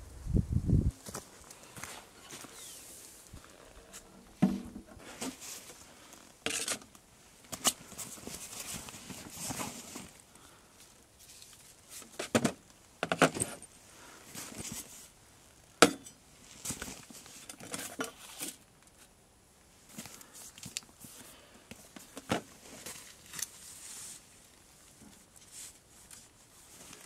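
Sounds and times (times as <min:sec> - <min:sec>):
handling rustle: 0:00.9 - 0:15.2, 0:16.3 - 0:19.2, 0:19.8 - 0:27.0.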